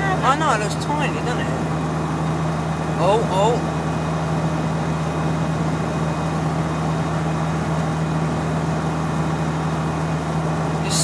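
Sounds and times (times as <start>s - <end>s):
car engine and road noise drone: 0.0s - 11.0s.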